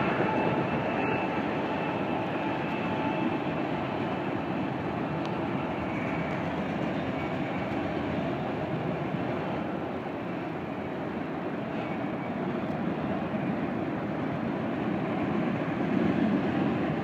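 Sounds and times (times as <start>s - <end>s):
freight train rumbling over bridge: 0.0s - 17.0s.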